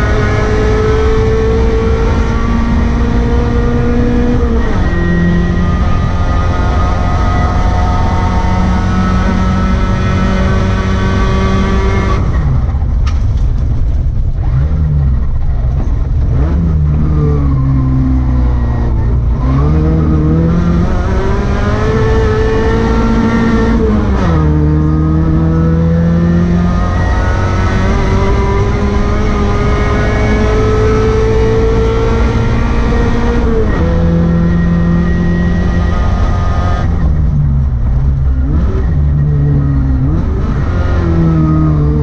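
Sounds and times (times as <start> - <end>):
rally car engine revving: 0.0 - 42.0
tyre and road noise: 0.0 - 42.0.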